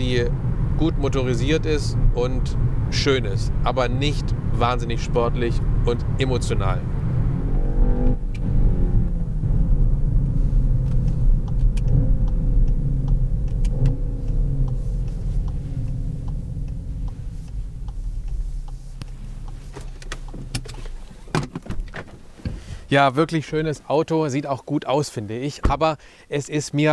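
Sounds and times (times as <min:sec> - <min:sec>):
car engine and road rumble: 0:00.0 - 0:26.9.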